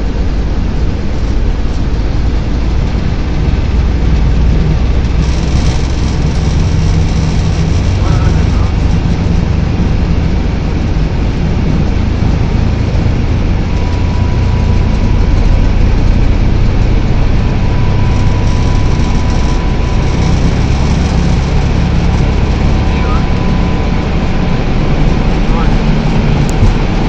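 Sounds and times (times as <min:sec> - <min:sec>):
jet engine cockpit rumble and hiss: 0:00.0 - 0:27.0.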